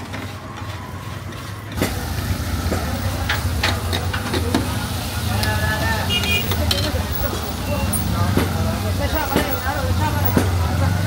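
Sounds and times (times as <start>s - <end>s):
vehicle engine rumbling: 0.0s - 11.0s
frying hiss: 0.2s - 11.0s.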